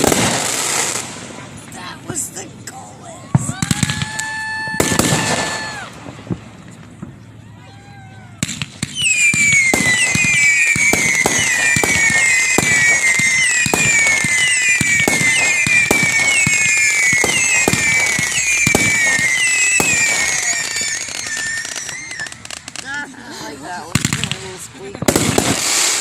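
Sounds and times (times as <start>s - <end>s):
whistling fireworks: 0.0s - 1.6s, 3.2s - 26.0s
fireworks popping: 0.0s - 2.7s, 3.3s - 26.0s.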